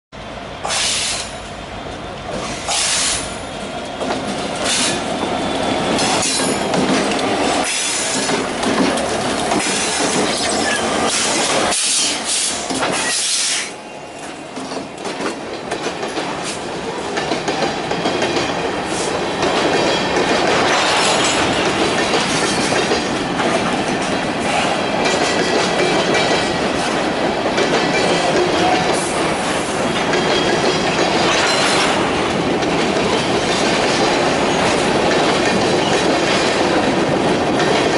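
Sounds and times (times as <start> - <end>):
diesel locomotives passing: 0.1 - 37.9
train wheels clacking over rail joints: 2.3 - 37.9.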